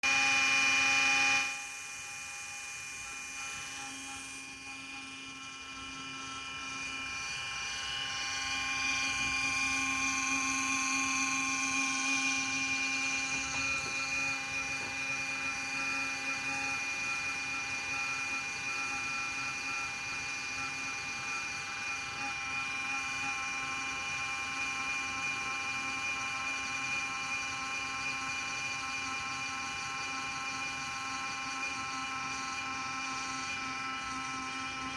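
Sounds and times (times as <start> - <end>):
cooling fan whining hum: 0.0 - 34.9.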